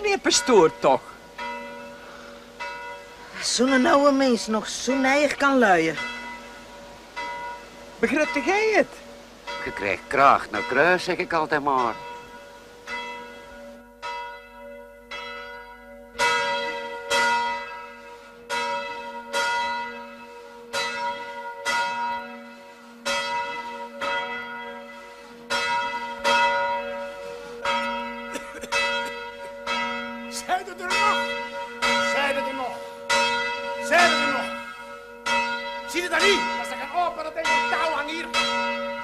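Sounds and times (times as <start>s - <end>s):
church bell ringing: 0.0s - 39.0s.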